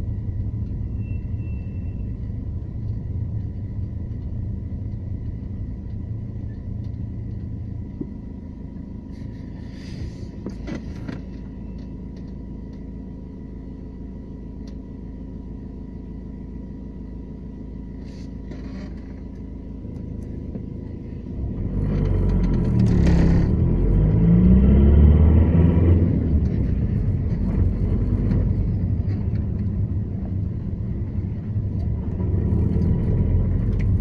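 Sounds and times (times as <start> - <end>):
diesel car engine rumbling: 0.0 - 34.0.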